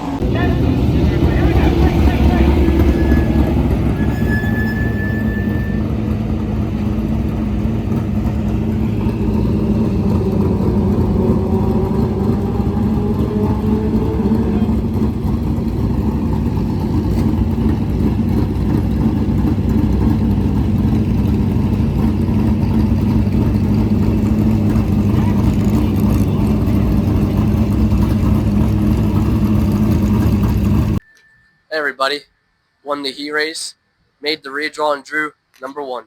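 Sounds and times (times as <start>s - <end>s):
race car engines running hard: 0.0s - 31.0s.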